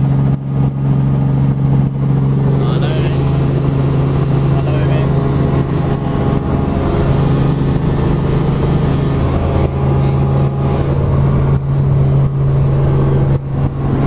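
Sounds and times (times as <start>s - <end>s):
helicopter drone: 0.0s - 14.0s.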